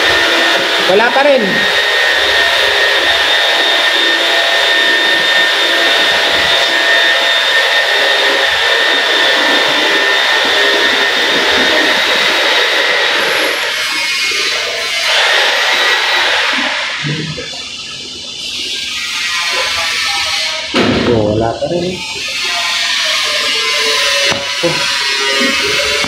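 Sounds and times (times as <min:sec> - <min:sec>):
machine whoosh with high whine: 0:00.0 - 0:20.8, 0:21.4 - 0:26.0.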